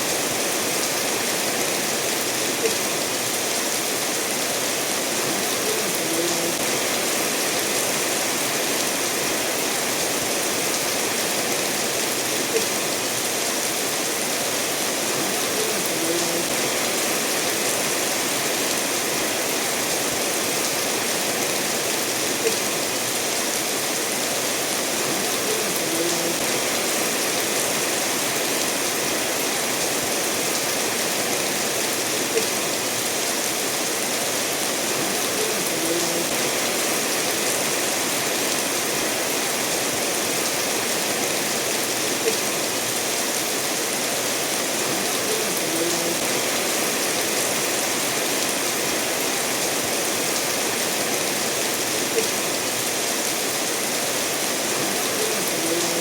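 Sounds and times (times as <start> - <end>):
steady rain falling: 0.0 - 56.0
stream running over stones: 0.0 - 56.0.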